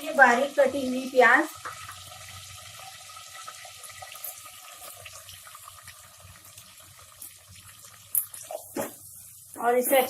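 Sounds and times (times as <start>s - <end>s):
oil and butter sizzling: 0.0s - 10.0s.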